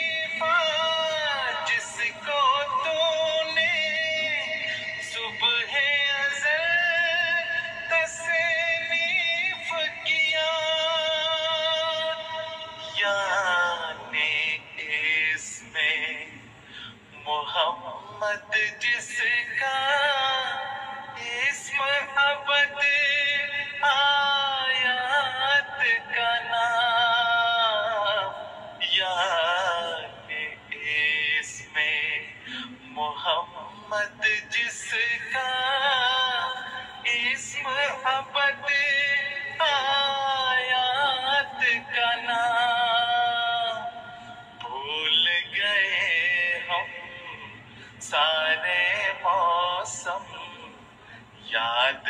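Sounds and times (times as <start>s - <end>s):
person singing a hymn: 0.0s - 52.0s.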